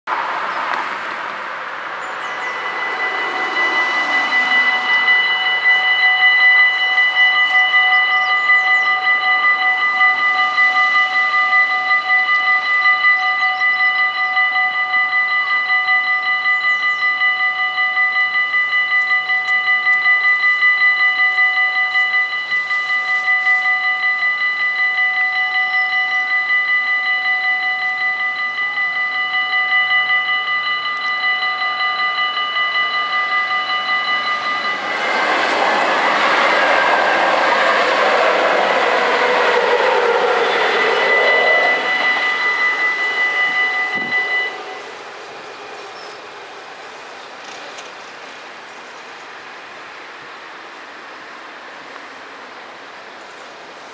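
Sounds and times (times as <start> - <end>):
electric train passing: 0.1 - 53.9
level crossing warning bells: 1.9 - 52.2.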